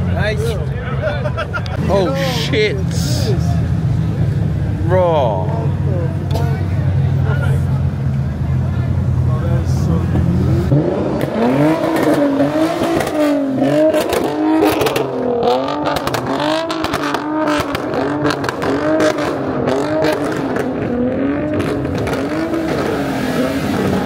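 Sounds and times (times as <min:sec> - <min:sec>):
car engine revving: 0:01.8 - 0:24.0.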